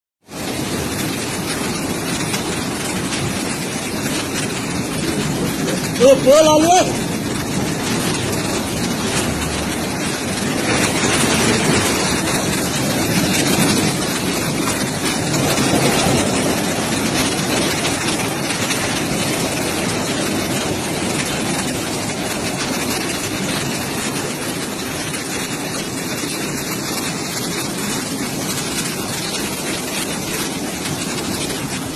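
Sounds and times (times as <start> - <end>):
floodwater rushing: 0.3 - 31.9.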